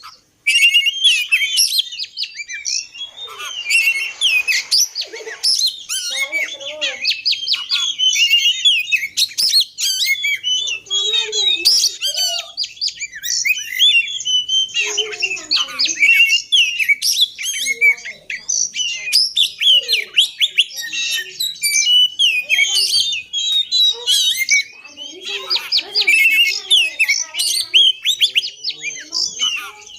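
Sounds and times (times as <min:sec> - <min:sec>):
magpie-robin singing: 0:00.0 - 0:29.9.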